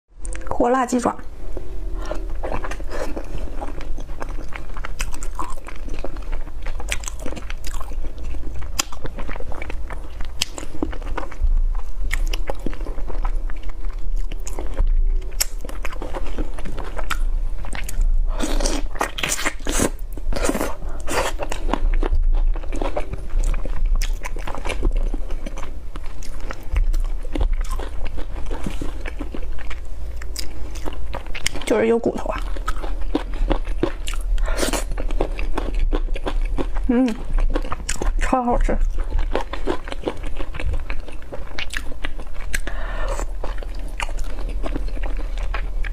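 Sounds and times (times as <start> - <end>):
person chewing with crackles: 0.2 - 45.9.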